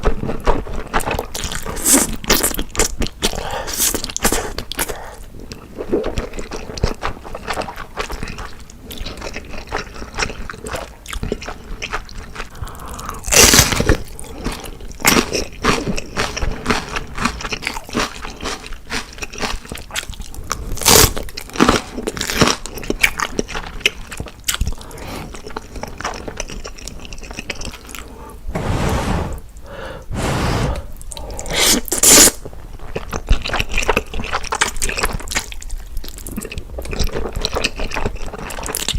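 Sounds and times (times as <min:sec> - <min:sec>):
crunchy chewing: 0:05.5 - 0:28.1, 0:30.1 - 0:38.9.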